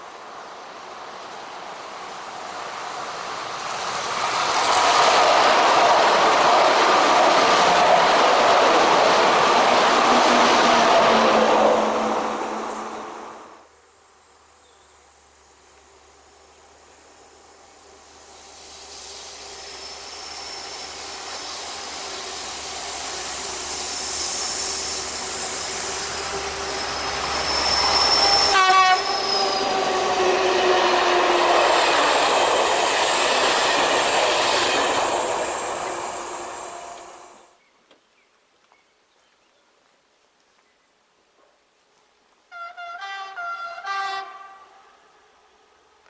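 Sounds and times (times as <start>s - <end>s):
diesel locomotives passing: 0.0s - 13.7s, 14.3s - 37.6s, 42.6s - 46.0s.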